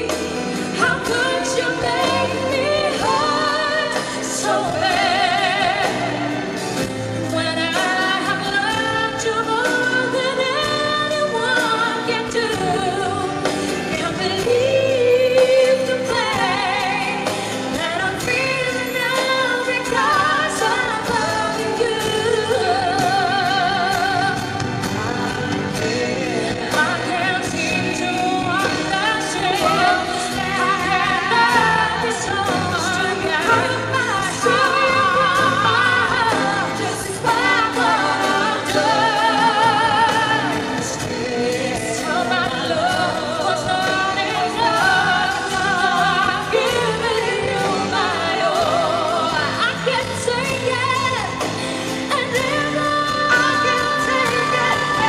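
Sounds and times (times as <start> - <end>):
live band accompaniment: 0.0 - 55.0
women singing pop ballad duet: 0.0 - 55.0.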